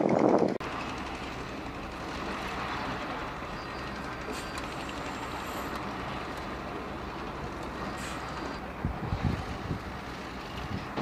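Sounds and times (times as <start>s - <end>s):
diesel engine rumbling with clatter: 0.0s - 11.0s.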